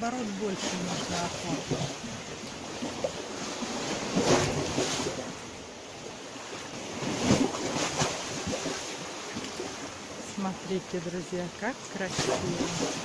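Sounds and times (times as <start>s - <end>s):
small waves lapping on shore: 0.0s - 13.0s.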